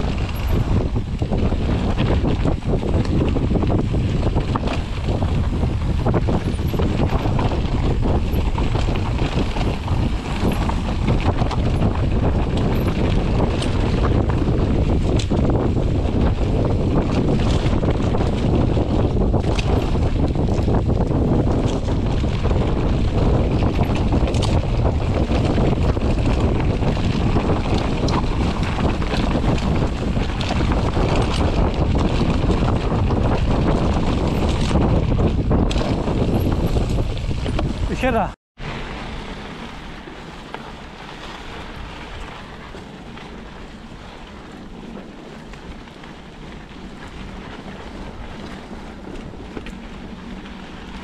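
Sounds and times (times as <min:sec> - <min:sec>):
bike rattling and clicking: 0:00.0 - 0:51.0
knobby tyres on dirt: 0:00.0 - 0:51.0
wind rushing over microphone: 0:00.0 - 0:51.0.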